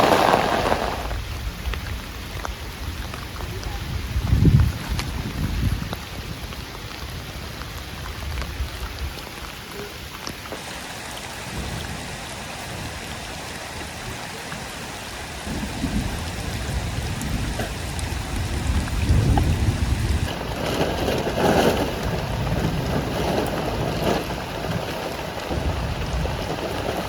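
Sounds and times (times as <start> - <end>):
thunder rumbling: 0.0 - 9.2, 10.7 - 27.0
heavy rain tapping: 0.0 - 27.0.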